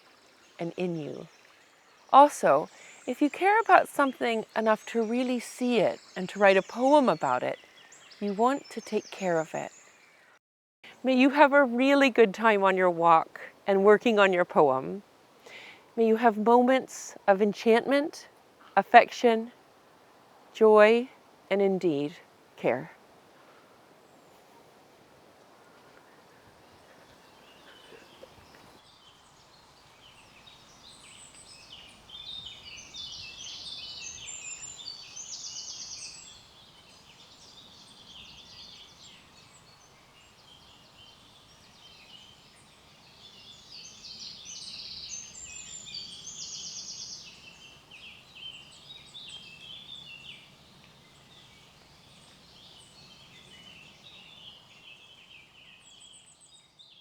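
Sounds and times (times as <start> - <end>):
songbirds singing: 0.0 - 19.6, 25.6 - 57.0.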